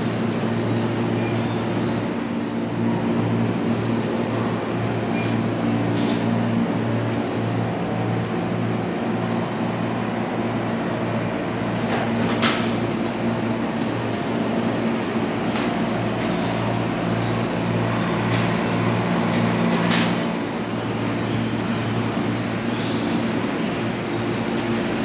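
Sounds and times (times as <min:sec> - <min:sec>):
air-conditioning hum: 0:00.0 - 0:25.0.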